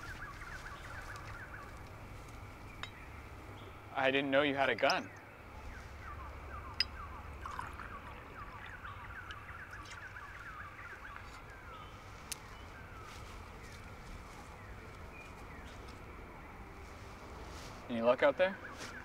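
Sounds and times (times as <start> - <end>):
birds twittering: 0.0 - 19.0.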